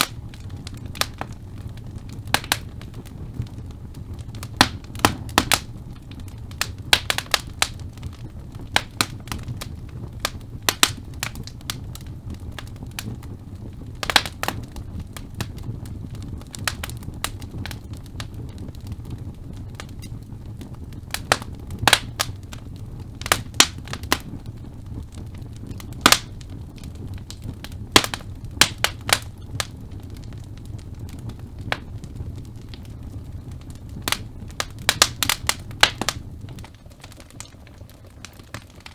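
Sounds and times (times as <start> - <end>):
flame rumble: 0.0 - 38.9
logs crackling and popping: 0.0 - 38.9.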